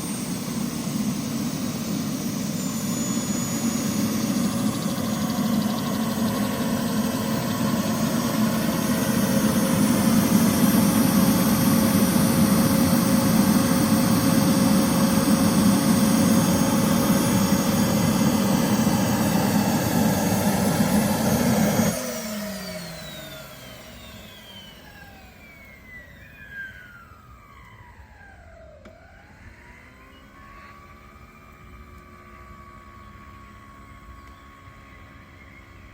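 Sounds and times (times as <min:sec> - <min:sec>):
turbine model helicopter running: 0:00.0 - 0:35.9
turbine whine spooling down: 0:00.0 - 0:35.9.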